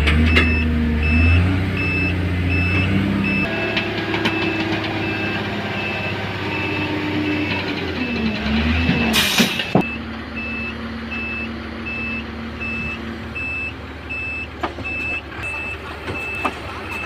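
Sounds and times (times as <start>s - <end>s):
diesel engine running: 0.0s - 17.0s
reversing alarm beeping: 0.3s - 8.6s, 9.8s - 17.0s.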